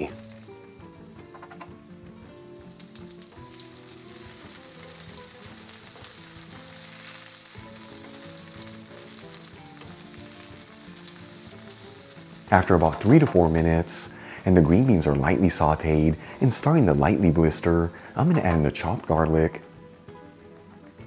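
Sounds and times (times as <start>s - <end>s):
beans sizzling in oil: 0.0s - 21.0s.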